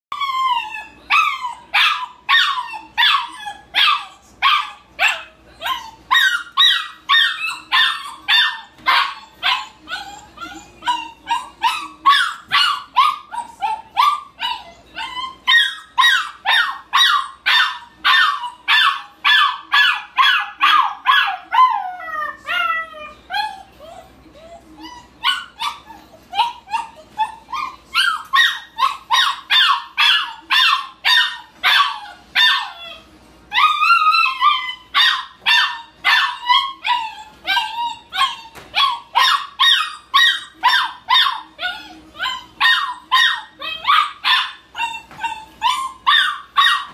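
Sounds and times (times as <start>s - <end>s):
puppy howling: 0.1s - 46.9s
puppy whining: 0.1s - 46.9s
puppy yapping: 0.1s - 46.9s.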